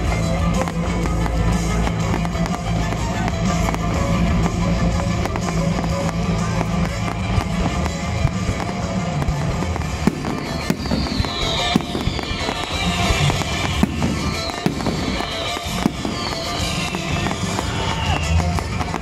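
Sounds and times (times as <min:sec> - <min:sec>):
fireworks bangs and crackles: 0:00.0 - 0:19.0
loud music: 0:00.0 - 0:19.0.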